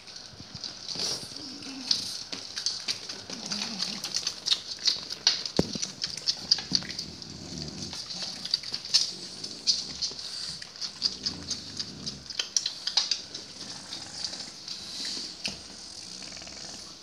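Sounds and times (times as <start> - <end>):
dogs licking: 0.0 - 17.0.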